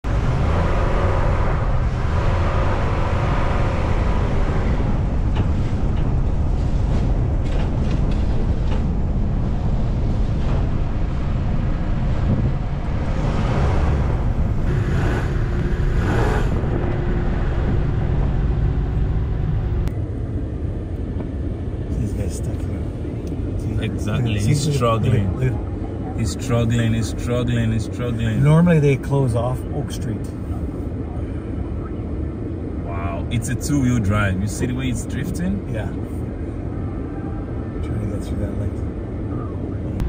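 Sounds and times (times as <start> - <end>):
car tyres and engine rumble: 0.0 - 40.0.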